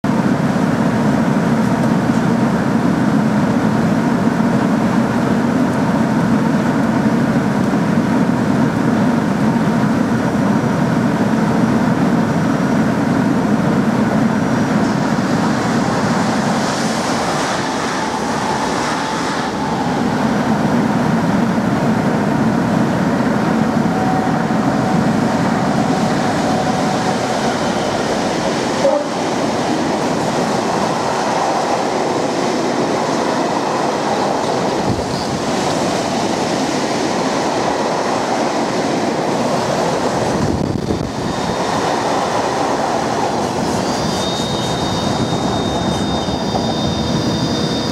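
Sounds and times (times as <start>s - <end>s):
passing electric train rush: 0.0s - 47.9s
diesel locomotive working hard: 0.1s - 47.9s
wagons rumbling along rails: 0.1s - 47.9s.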